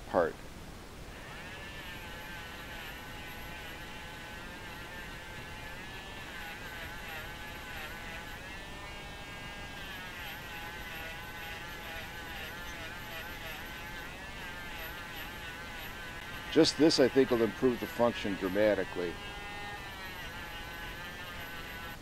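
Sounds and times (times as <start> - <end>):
rotary tool motor whine: 1.1 - 22.0
wire brush scrubbing metal threads: 1.2 - 22.0.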